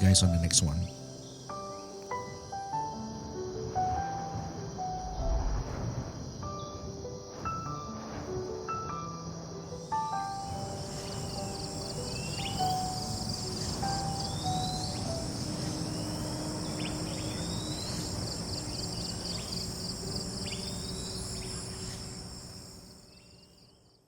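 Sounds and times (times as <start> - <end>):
insect chorus trilling: 0.0 - 24.0.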